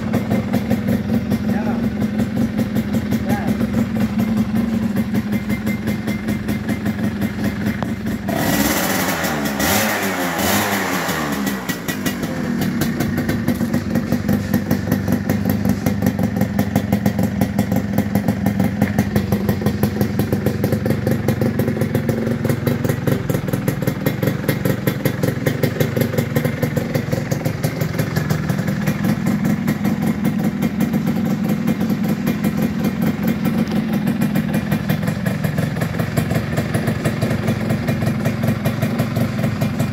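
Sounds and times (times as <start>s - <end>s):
two-stroke motorcycle idling and revving: 0.0s - 39.9s.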